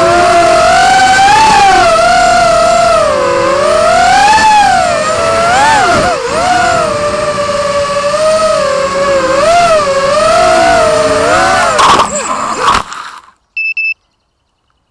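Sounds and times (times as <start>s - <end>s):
drone motors whining: 0.0s - 13.4s.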